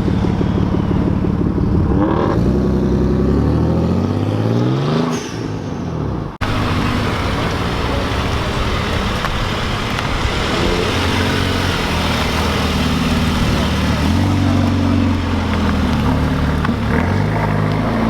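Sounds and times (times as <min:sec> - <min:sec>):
car engine: 0:00.0 - 0:18.0
traffic noise: 0:00.0 - 0:18.0.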